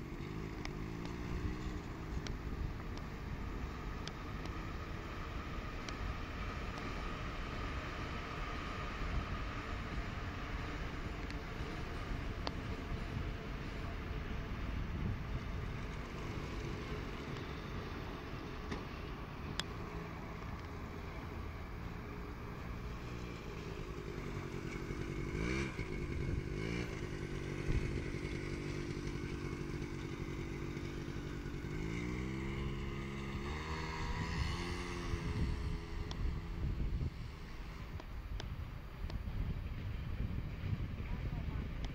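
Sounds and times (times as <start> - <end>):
scooter engine revving: 0.0 - 38.0.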